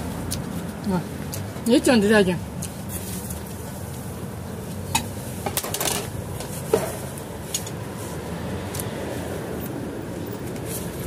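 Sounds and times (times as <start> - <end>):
street background hum: 0.0 - 11.0.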